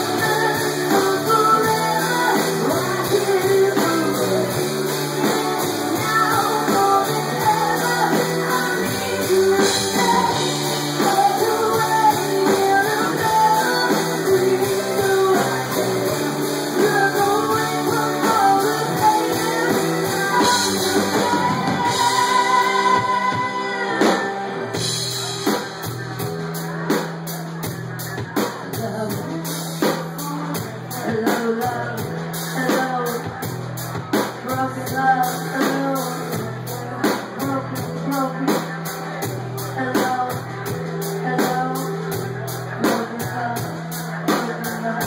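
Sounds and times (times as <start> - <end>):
woman singing: 0.0 - 26.2, 28.0 - 45.0
bass guitar: 0.0 - 45.0
drum kit steady beat: 0.0 - 45.0
electric guitar: 0.0 - 45.0.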